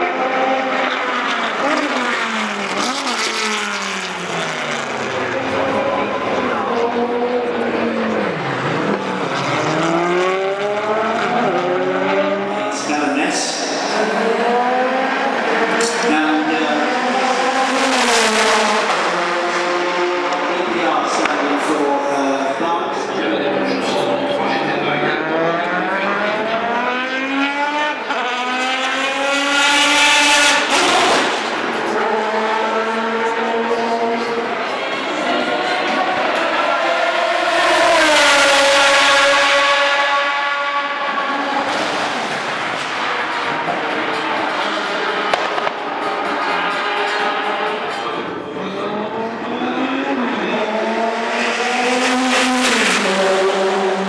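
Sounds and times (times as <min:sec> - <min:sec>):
race car accelerating past: 0:00.0 - 0:54.0.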